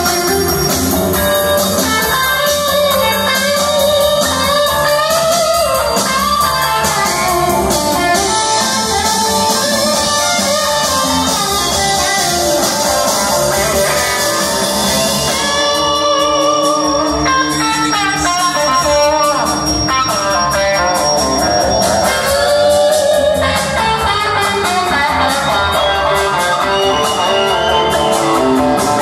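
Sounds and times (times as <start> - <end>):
blues-rock band playing: 0.0 - 29.0
electric guitar bent notes: 0.0 - 29.0.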